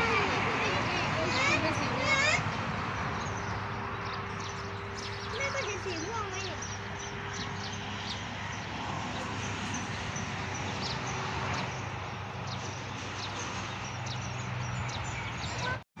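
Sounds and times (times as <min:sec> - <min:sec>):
small birds chirping: 0:00.0 - 0:15.8.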